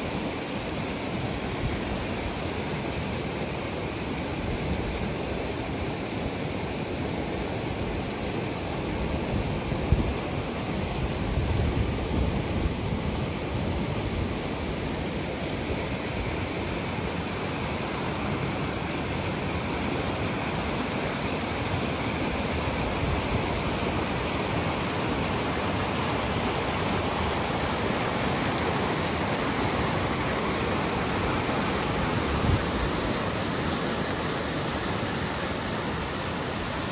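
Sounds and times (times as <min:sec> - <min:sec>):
rushing river water: 0:00.0 - 0:36.9.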